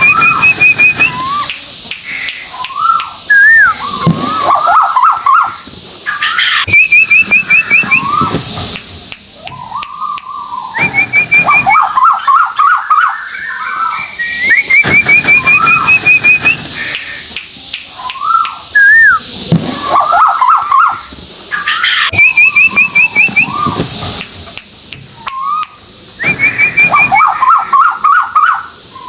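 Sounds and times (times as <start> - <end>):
songbird singing whistled phrases: 0.0 - 8.8, 9.4 - 17.3, 17.9 - 24.0, 25.1 - 29.0.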